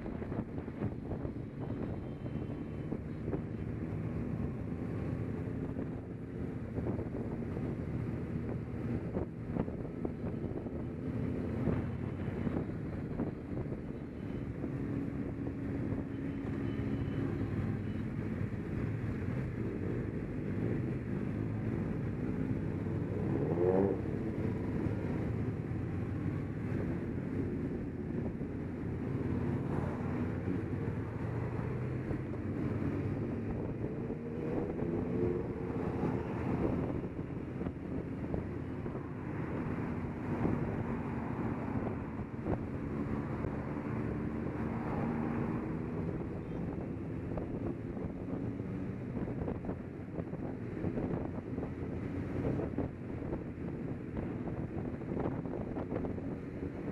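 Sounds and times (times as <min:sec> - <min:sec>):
wind noise on microphone: 0:00.0 - 0:56.9.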